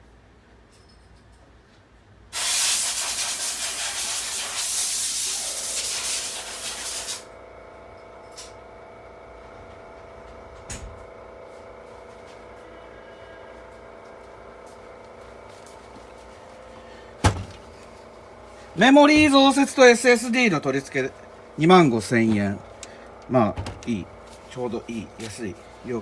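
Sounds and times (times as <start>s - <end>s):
computer cooling fans blowing: 2.3s - 26.0s.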